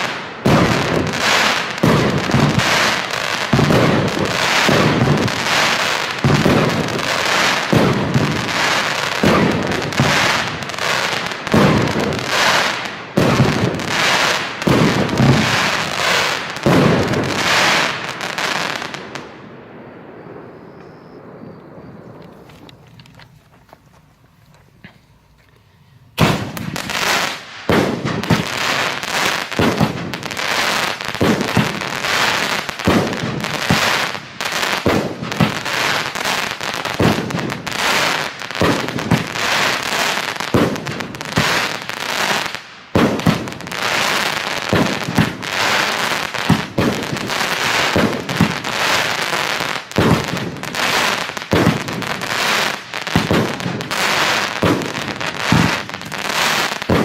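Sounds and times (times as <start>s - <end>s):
firework crackling: 0.0s - 25.4s, 26.1s - 57.0s.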